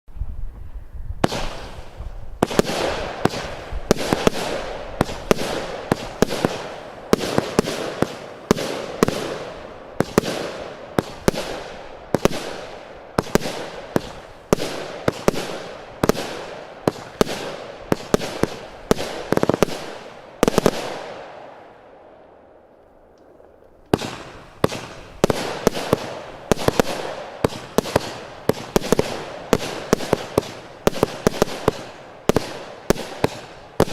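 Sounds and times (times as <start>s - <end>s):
fireworks cracking: 1.2s - 21.6s, 23.2s - 33.9s.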